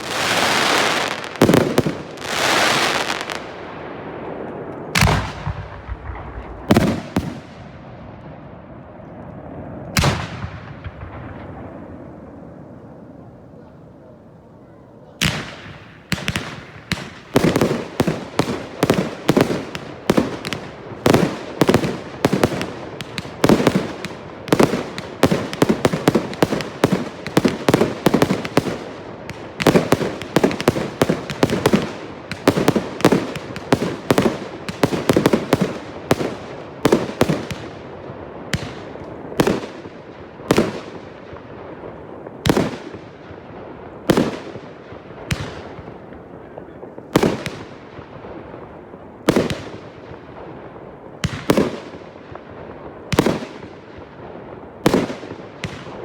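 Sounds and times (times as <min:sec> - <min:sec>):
fireworks bangs: 0:00.0 - 0:13.8, 0:15.0 - 0:56.0.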